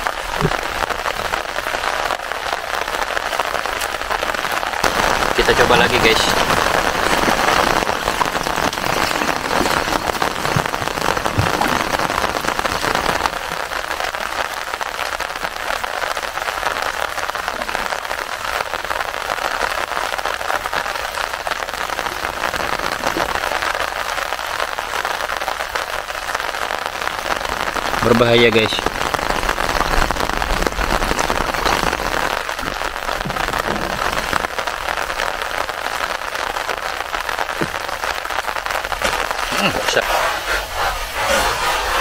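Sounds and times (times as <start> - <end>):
rain on lake water: 0.0 - 42.0
rain pattering on umbrella: 0.0 - 42.0.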